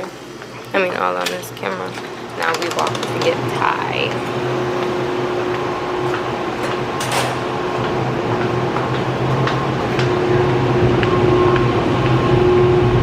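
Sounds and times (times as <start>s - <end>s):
steady low machine hum: 0.0s - 13.0s.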